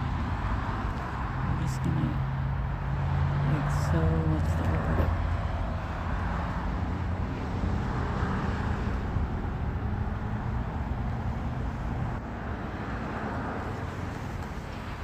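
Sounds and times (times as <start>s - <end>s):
vehicle engine and road hum: 0.0s - 15.0s.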